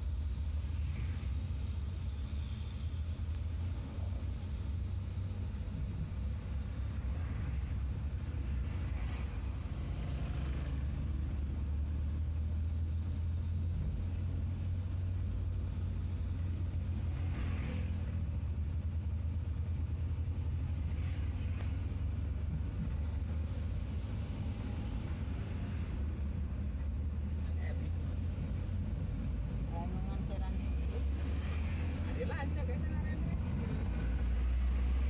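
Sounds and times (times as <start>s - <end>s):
passing traffic whooshes: 0.0s - 35.0s
road noise: 0.0s - 35.0s
vehicle engine rumble: 0.0s - 35.0s.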